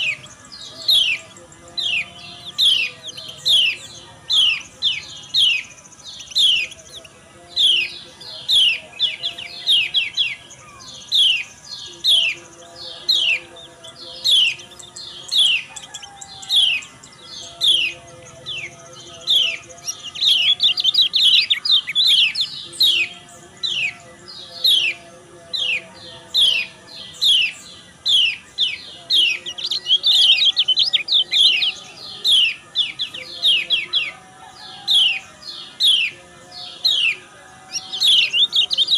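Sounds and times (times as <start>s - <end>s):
bird song runs: 0.0s - 38.9s.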